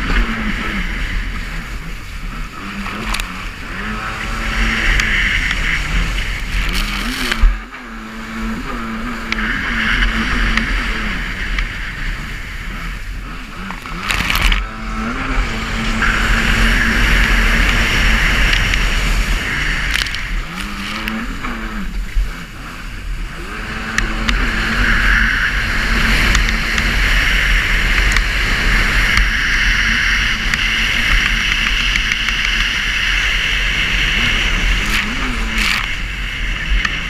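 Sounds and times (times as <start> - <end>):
jet ski engine running: 0.0 - 37.0
rush of wind and spray: 0.0 - 37.0
wind rumbling on microphone: 0.0 - 37.0.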